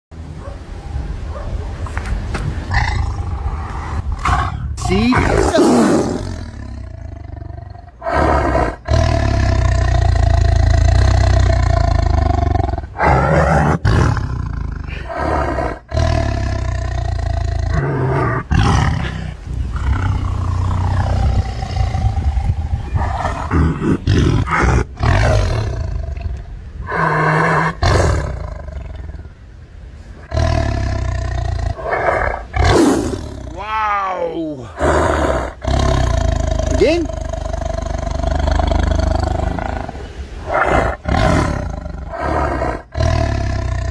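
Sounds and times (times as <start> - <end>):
tiger roaring: 1.9 - 29.4, 30.2 - 43.9.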